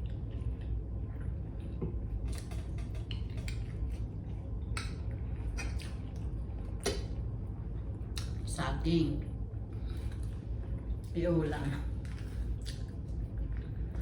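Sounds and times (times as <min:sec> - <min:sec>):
person chewing wetly: 0:00.0 - 0:08.5, 0:09.7 - 0:11.1, 0:11.9 - 0:14.0
low hum: 0:00.0 - 0:14.0.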